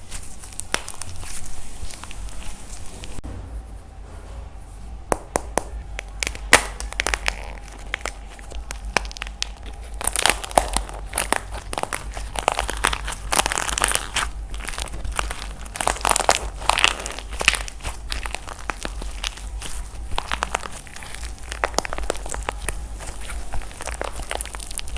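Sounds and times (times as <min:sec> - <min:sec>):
dried clay cracking and crunching: 0:00.0 - 0:03.2, 0:05.0 - 0:24.9.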